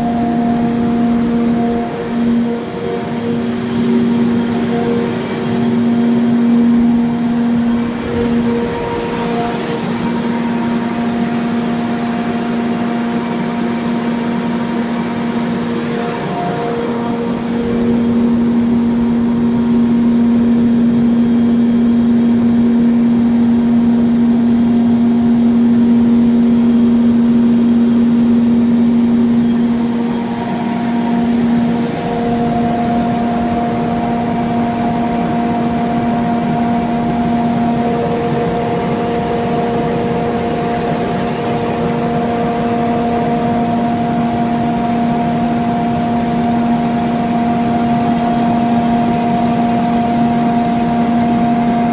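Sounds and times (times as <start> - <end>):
diesel generator drone: 0.0 - 51.9.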